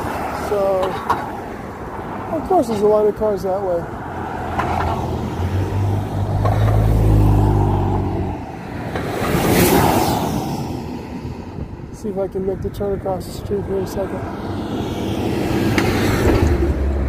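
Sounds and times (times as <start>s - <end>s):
car engine hum passing: 0.0s - 11.8s, 13.6s - 17.0s
car engine and tyre noise: 0.0s - 17.0s.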